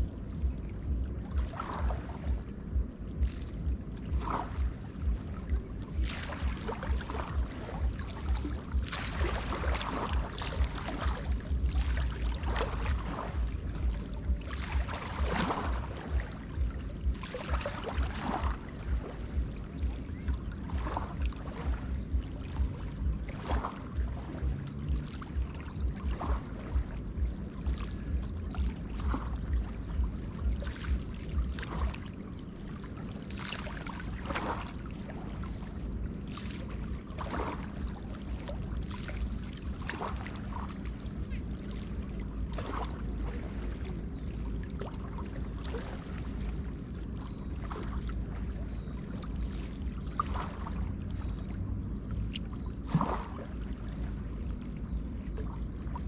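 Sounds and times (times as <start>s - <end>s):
water lapping and splashing: 0.0s - 56.0s
wind rumble on microphone: 0.0s - 56.0s.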